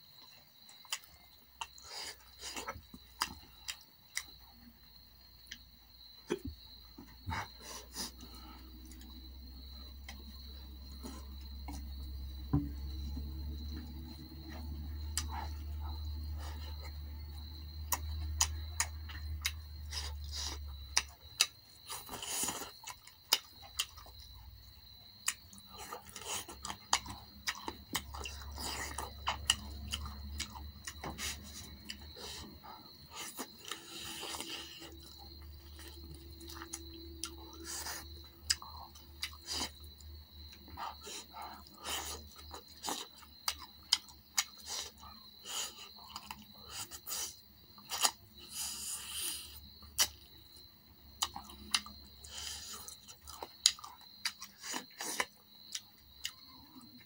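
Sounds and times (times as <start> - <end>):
person chewing with wet mouth sounds: 0.0 - 57.0.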